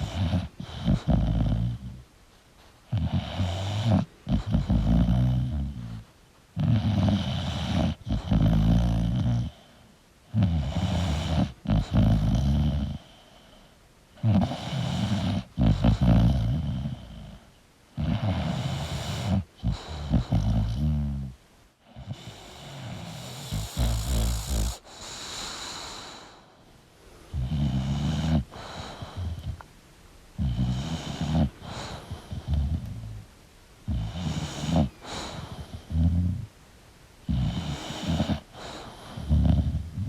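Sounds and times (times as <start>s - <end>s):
dog snoring: 0.0s - 2.0s, 2.9s - 13.6s, 14.2s - 26.6s, 27.3s - 29.7s, 30.4s - 33.2s, 33.8s - 36.5s, 37.2s - 40.0s.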